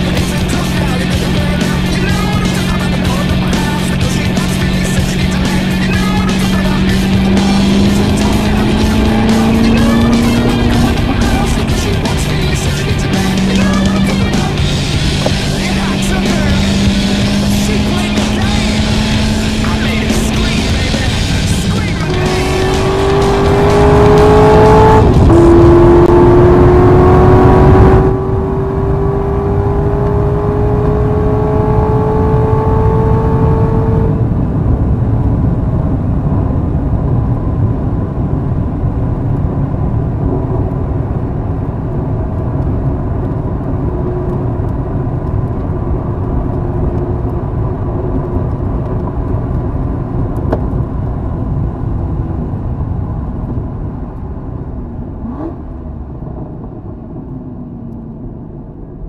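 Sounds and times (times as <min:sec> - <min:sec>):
car engine revving: 0:00.0 - 0:35.6, 0:37.6 - 0:59.0
wind and tyre roar: 0:00.0 - 0:59.0.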